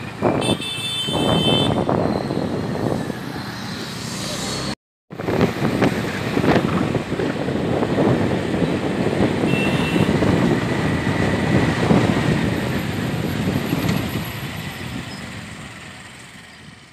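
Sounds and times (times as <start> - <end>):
vehicle engine and tyre rumble: 0.0 - 16.9.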